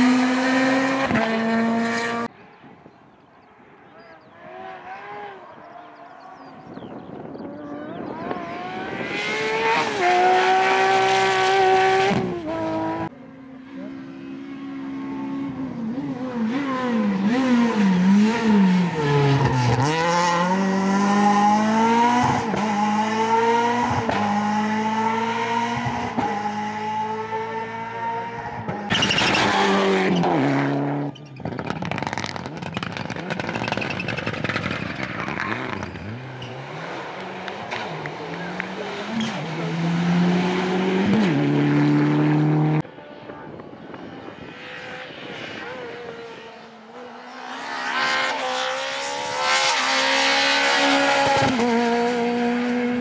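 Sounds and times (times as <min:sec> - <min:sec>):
rally car engines revving high: 0:00.0 - 0:02.3, 0:04.3 - 0:53.0.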